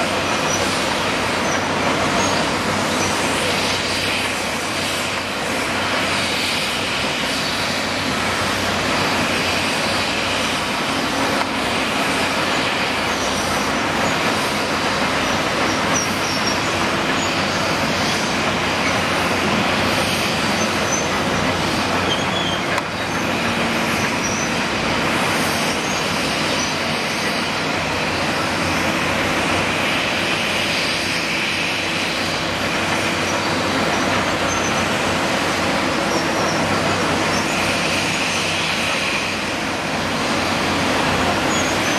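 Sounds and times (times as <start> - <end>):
excavator diesel engine running: 0.0 - 41.9
site and street noise: 0.0 - 41.9.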